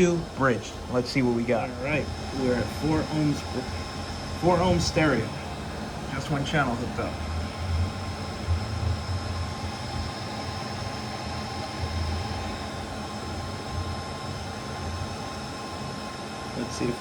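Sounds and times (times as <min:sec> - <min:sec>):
low fan-like hum: 0:00.0 - 0:17.0.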